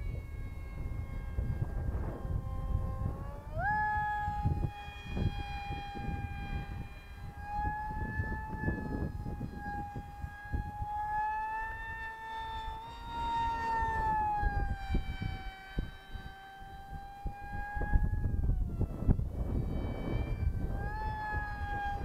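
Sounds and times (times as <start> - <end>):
electric motor whining: 0.0 - 22.0
wind rumbling on microphone: 0.0 - 22.0.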